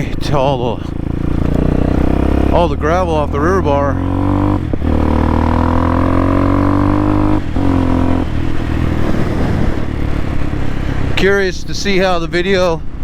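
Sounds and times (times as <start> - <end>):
motorcycle engine under throttle: 0.0 - 11.6.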